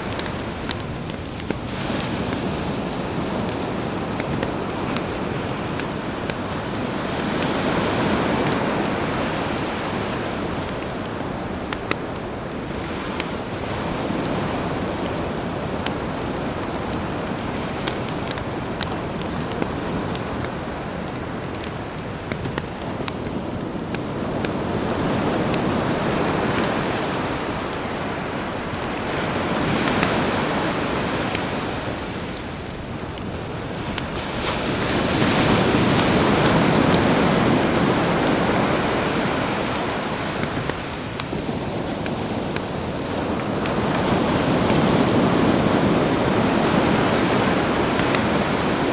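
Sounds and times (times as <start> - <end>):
campfire crackling and popping: 0.0 - 48.9
sea waves: 0.0 - 48.9.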